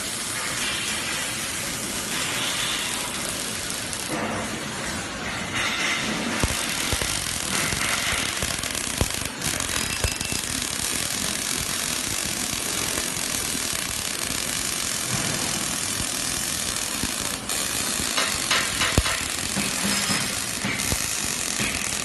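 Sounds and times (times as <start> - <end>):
sharp welding pops: 0.0 - 22.0
welding arcs crackling: 0.0 - 22.0.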